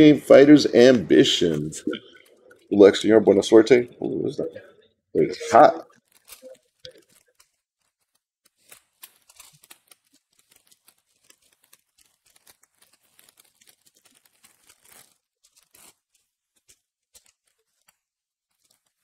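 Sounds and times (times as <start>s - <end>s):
plastic wrap crinkling and tearing: 0.0s - 19.0s.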